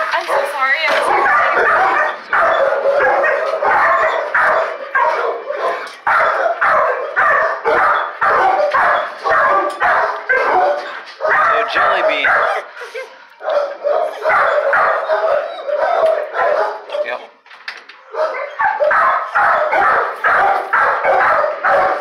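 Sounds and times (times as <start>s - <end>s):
dog barking loudly: 0.0s - 12.8s, 13.4s - 17.3s, 18.1s - 22.0s.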